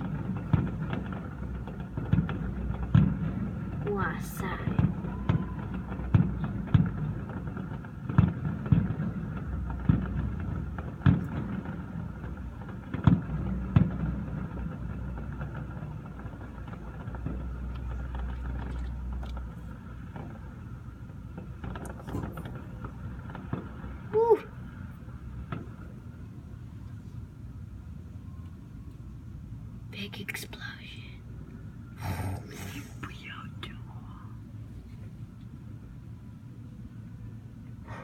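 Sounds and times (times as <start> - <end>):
distant fireworks bursting: 0.0 - 38.0
steady low rumble: 0.0 - 38.0.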